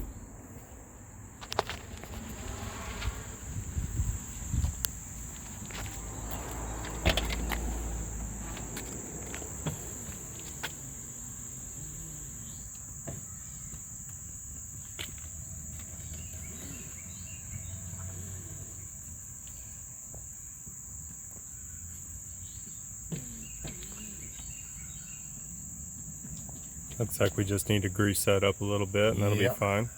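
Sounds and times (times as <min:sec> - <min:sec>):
high-pitched insect chorus: 0:00.0 - 0:29.9.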